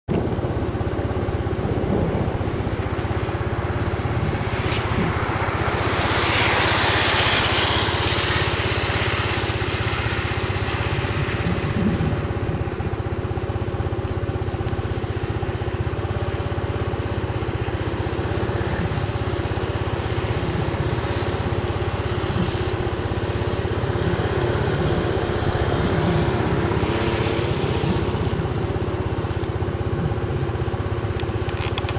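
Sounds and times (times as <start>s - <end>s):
traffic engine hum: 0.1s - 31.9s
vehicle passing by: 1.3s - 13.8s, 14.7s - 31.2s.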